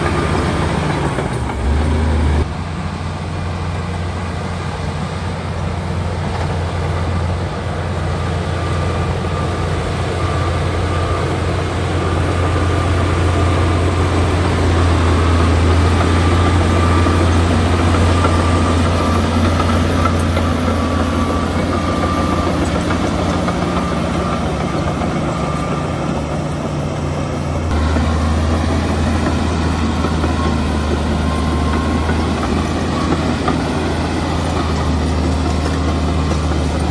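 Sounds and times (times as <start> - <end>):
diesel engine droning: 0.0 - 36.9.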